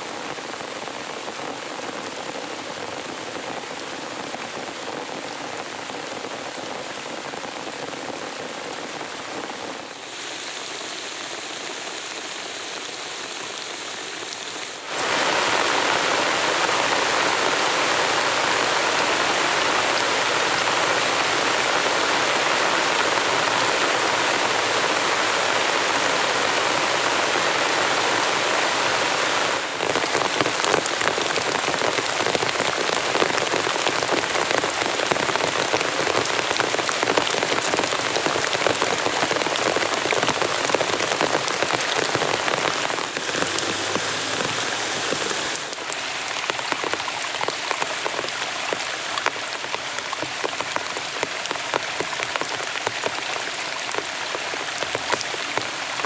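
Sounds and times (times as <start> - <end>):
heavy rain pouring: 0.0 - 56.0
raindrops striking close by: 0.0 - 56.0.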